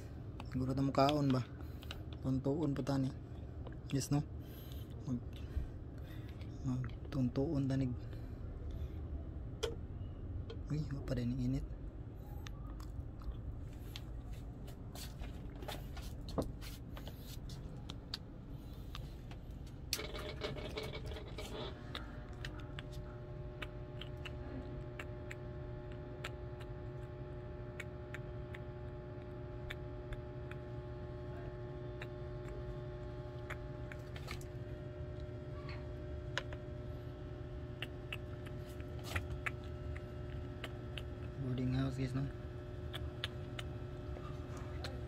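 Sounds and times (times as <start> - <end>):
low electric hum: 0.0 - 45.0.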